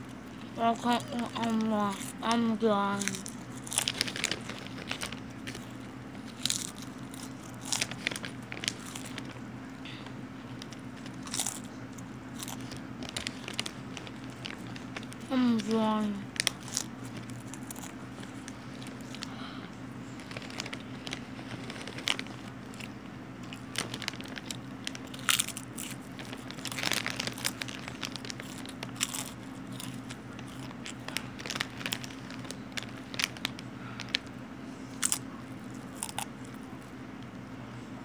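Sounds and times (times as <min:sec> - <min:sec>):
low hum: 0:00.0 - 0:38.0
chips crunched and chewed: 0:02.9 - 0:19.4, 0:20.1 - 0:34.3, 0:34.9 - 0:37.0.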